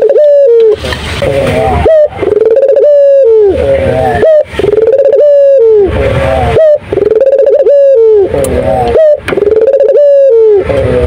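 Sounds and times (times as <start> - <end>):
dove cooing: 0.0 - 11.0.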